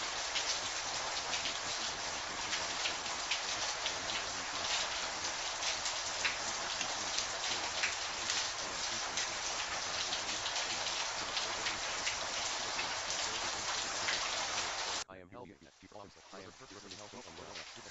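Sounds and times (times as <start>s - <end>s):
steady rain: 0.0s - 15.0s, 15.9s - 17.9s.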